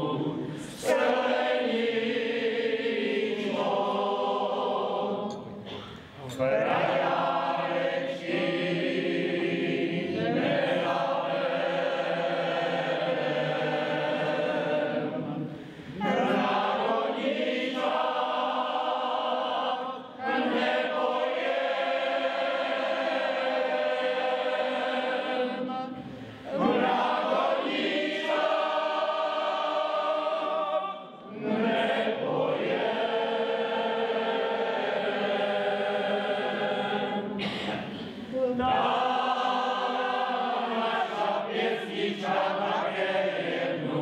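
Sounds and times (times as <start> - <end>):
mixed choir singing a cappella: 0.0 - 44.0.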